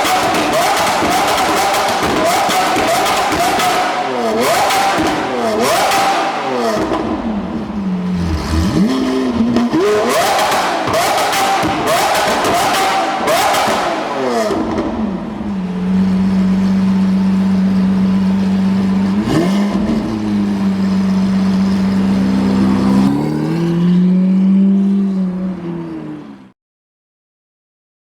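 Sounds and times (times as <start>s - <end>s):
engine rev blip: 0.0s - 25.5s
car engine running: 0.0s - 26.4s.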